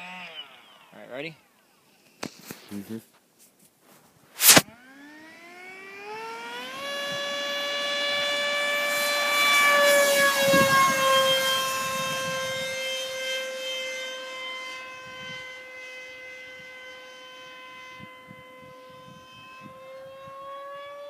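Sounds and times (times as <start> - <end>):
model jet electric motor whine: 0.0 - 1.2, 4.5 - 21.0.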